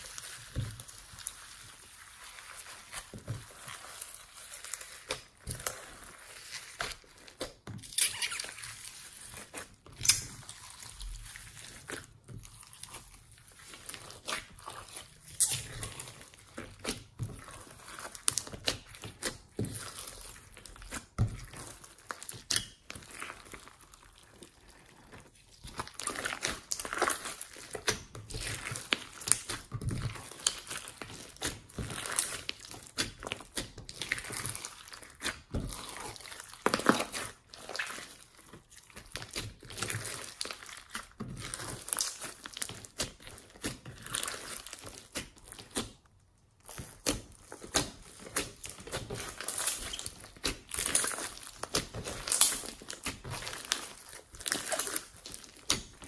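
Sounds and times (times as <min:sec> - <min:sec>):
slime crackling and popping: 0:00.0 - 0:56.0.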